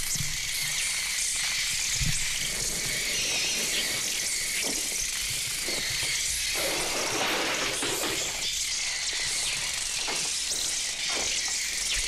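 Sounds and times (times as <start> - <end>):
sparrows twittering and chirping: 0.0 - 12.0.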